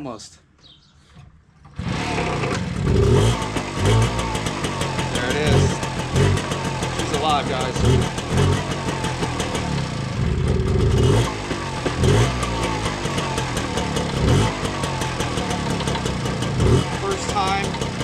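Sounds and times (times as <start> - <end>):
moped engine idling and revving: 1.6 - 18.0.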